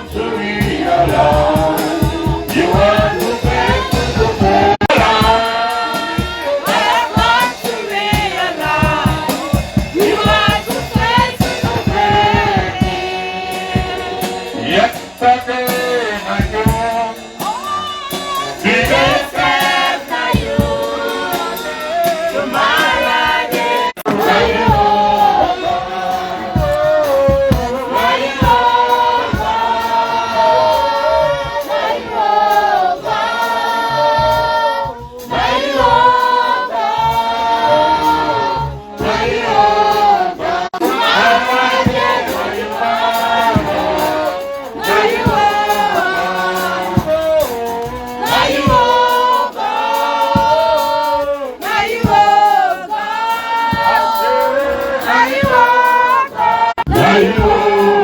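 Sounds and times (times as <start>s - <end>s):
choir and congregation singing: 0.0s - 58.0s
instrumental backing with beat: 0.0s - 58.0s.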